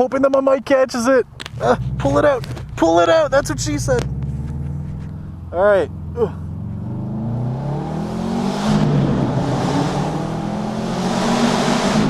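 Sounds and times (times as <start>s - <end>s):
loud car engine accelerating: 1.4s - 12.0s.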